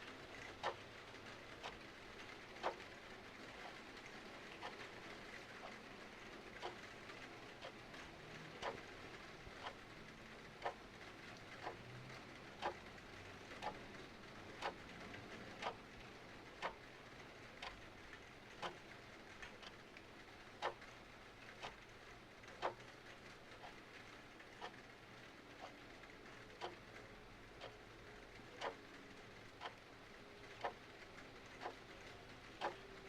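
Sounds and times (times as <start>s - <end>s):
soft rain hiss: 0.0s - 33.0s
clock ticking: 0.1s - 3.8s, 4.4s - 33.0s.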